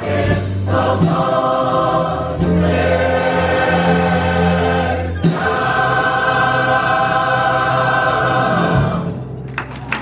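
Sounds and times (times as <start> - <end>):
mixed chorus holding a chord: 0.0 - 9.2.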